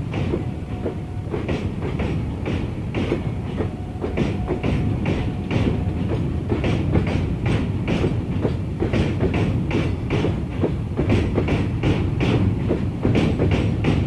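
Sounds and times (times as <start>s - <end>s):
train wheels clacking over rail joints: 0.0s - 14.0s.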